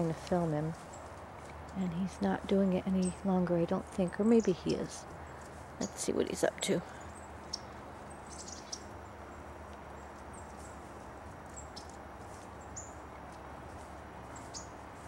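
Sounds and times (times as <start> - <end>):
low background hum: 0.0 - 15.0
songbirds chirping: 0.0 - 15.0.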